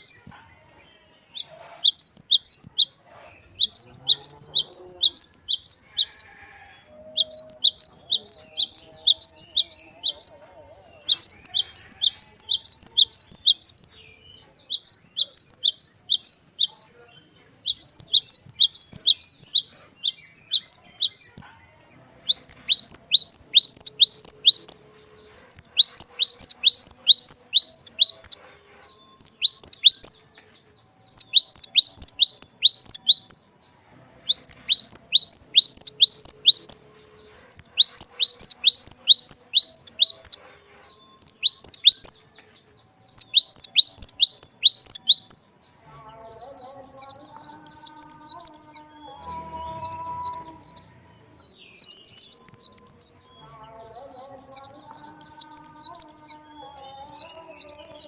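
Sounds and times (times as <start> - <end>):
bird singing whistled notes: 0.0 - 21.6, 22.2 - 33.6, 34.2 - 45.6, 46.2 - 58.0.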